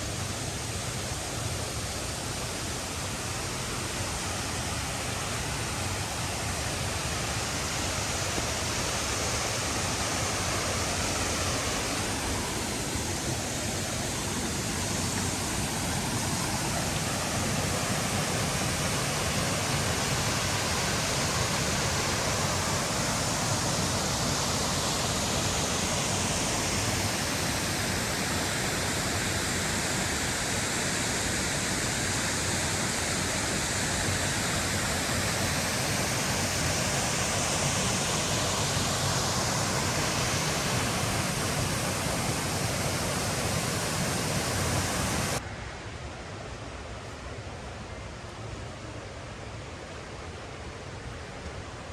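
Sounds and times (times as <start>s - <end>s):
water rushing over rocks: 0.0s - 45.5s.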